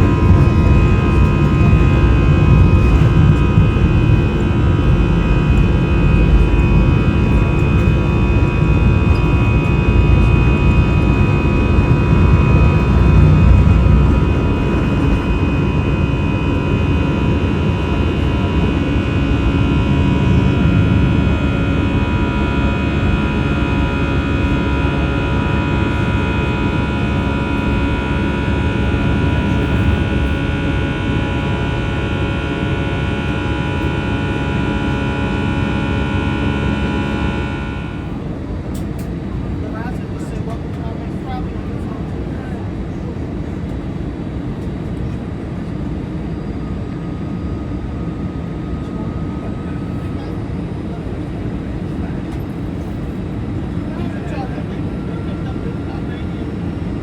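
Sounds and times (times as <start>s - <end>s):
jet engine high whine: 0.0s - 57.0s
jet engines rumbling: 0.0s - 57.0s.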